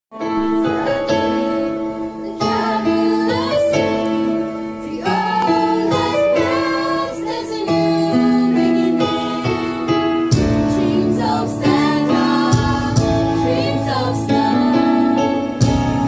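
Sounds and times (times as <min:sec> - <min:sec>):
group singing into microphones: 0:00.2 - 0:16.0.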